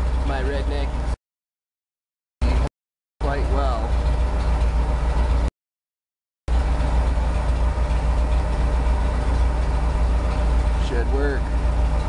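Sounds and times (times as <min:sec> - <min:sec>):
engine idling deeply: 0:00.0 - 0:01.2, 0:02.4 - 0:05.5, 0:06.5 - 0:12.0.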